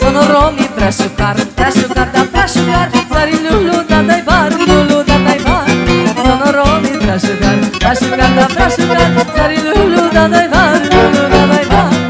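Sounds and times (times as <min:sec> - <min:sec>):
fast folk dance music: 0:00.0 - 0:12.0.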